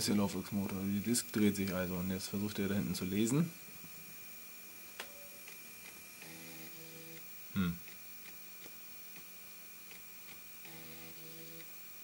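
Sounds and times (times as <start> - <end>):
floppy drive hum and ticking: 0.0 - 4.3, 4.9 - 12.0
disk drive buzz: 0.0 - 12.0.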